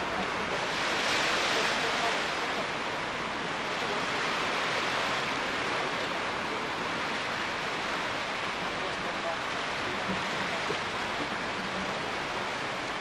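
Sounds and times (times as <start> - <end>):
small waves washing: 0.0 - 13.0.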